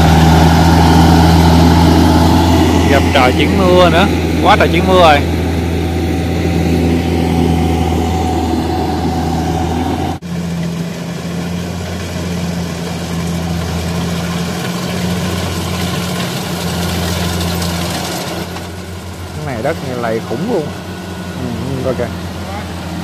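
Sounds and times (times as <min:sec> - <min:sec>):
harvester diesel engine running: 0:00.0 - 0:23.0.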